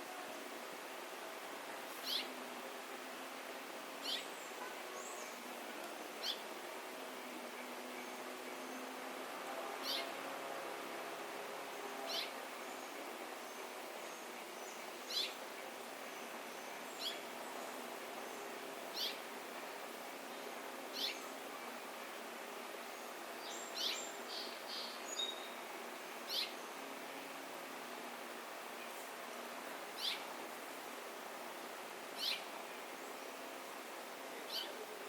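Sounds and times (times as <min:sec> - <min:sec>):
steady background hiss: 0:00.0 - 0:35.0.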